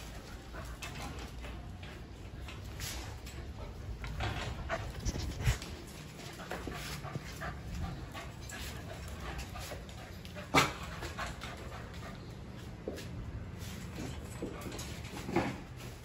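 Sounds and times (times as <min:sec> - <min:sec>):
dogs panting: 0:00.0 - 0:15.1.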